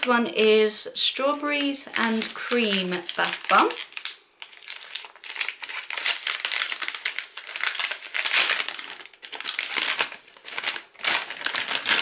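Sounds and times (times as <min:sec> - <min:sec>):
paper wrapping crinkling: 0:01.5 - 0:12.0.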